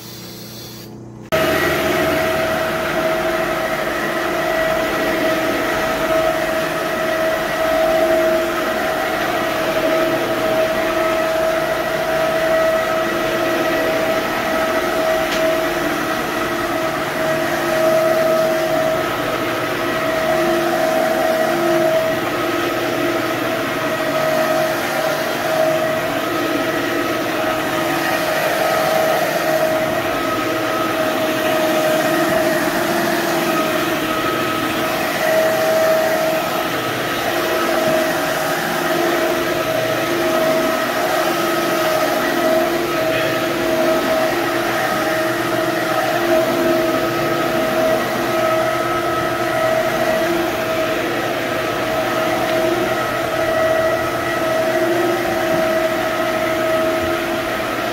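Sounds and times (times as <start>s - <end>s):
floor-scrubbing machine humming: 0.0s - 57.9s.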